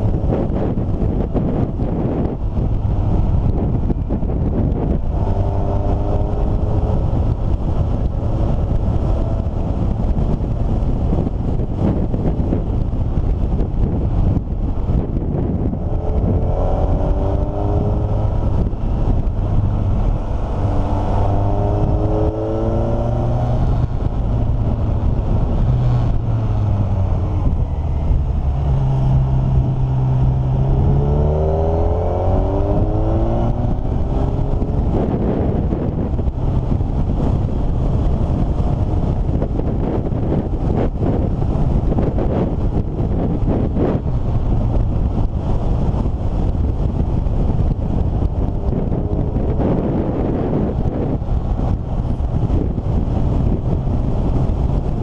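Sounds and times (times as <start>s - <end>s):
vehicle engine accelerating: 0.0s - 55.0s.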